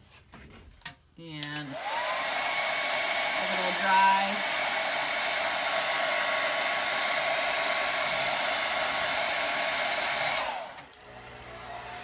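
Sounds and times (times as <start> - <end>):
handheld dryer blowing: 1.4 - 12.0.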